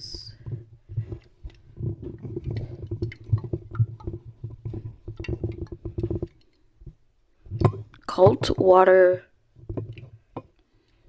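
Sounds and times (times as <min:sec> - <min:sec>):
knocks and rustles of handling: 0:00.0 - 0:08.7, 0:09.6 - 0:10.7.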